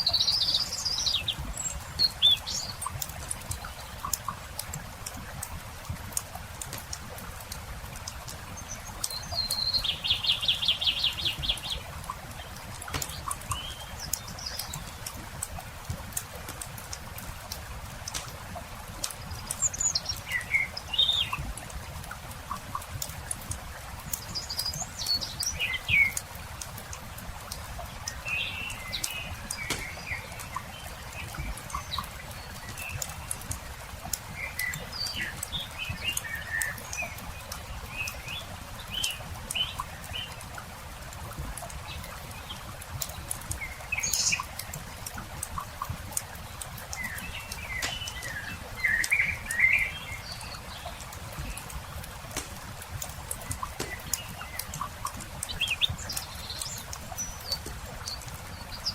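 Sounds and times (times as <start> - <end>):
birds chirping: 0.0 - 58.9
campfire crackling and popping: 0.3 - 58.9.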